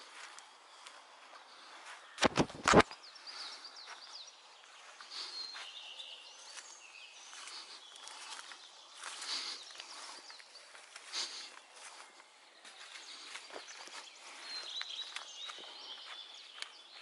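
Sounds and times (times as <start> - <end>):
footsteps on leaves: 0.0 - 17.0
small birds chirping: 0.0 - 17.0.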